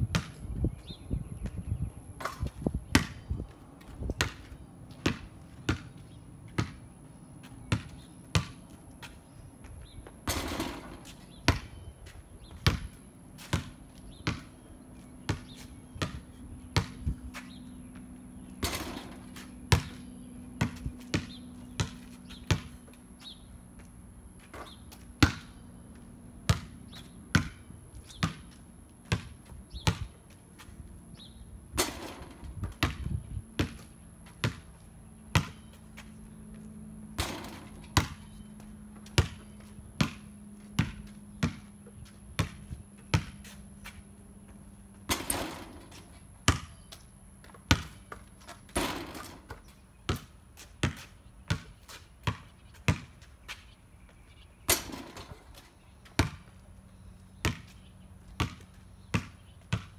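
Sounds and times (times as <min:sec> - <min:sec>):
basketball bouncing on concrete: 0:00.0 - 0:00.9, 0:02.2 - 0:53.6, 0:54.7 - 0:56.7, 0:57.3 - 0:59.9.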